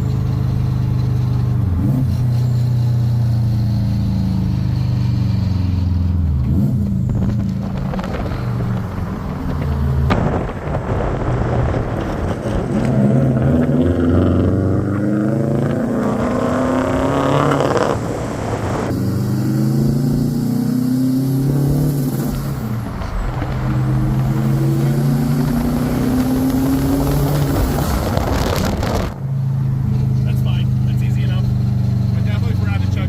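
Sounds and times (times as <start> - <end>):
car engine accelerating through gears: 0.0 - 10.2, 11.4 - 33.0.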